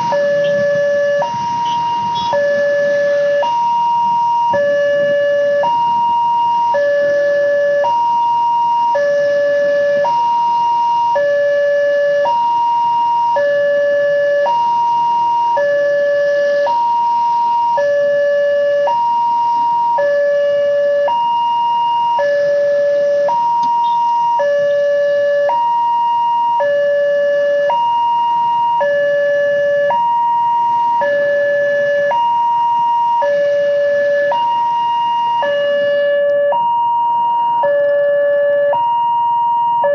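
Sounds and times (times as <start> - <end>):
hi-lo warning siren: 0.0 - 39.9.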